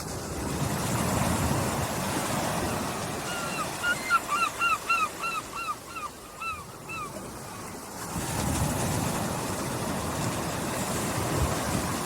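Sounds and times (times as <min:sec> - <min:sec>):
small waves washing on a beach: 0:00.0 - 0:12.0.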